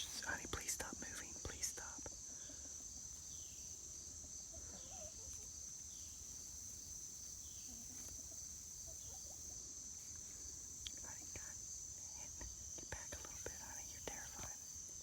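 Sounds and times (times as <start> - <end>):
crickets chirping drone: 0.0 - 15.0.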